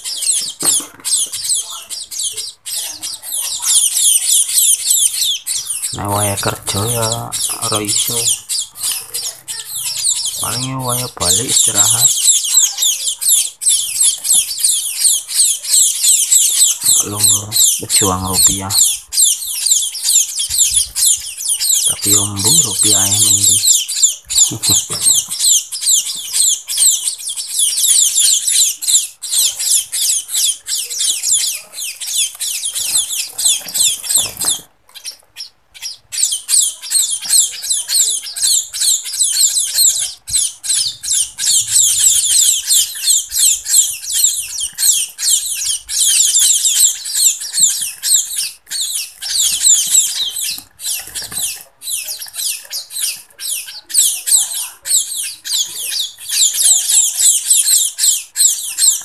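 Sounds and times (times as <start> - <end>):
fledglings cheeping: 0.0 - 59.0.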